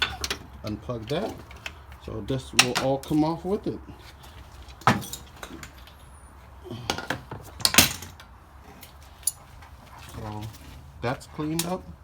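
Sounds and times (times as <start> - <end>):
metal tools clinking and knocking: 0.0 - 3.4, 4.3 - 6.1, 6.8 - 12.0.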